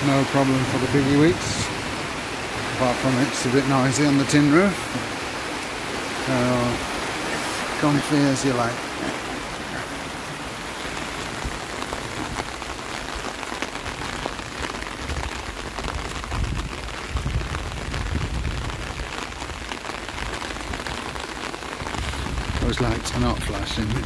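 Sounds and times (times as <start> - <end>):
heavy rain on a tin roof: 0.0 - 24.0.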